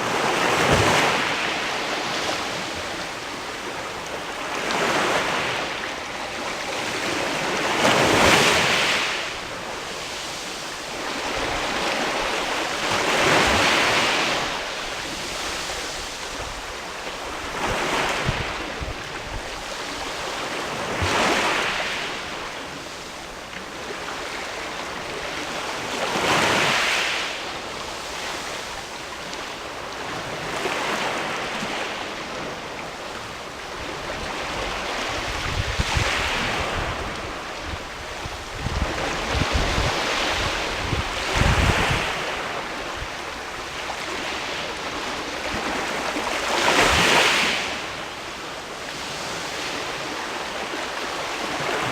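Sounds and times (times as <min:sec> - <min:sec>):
sea waves washing on rocky shore: 0:00.0 - 0:51.9.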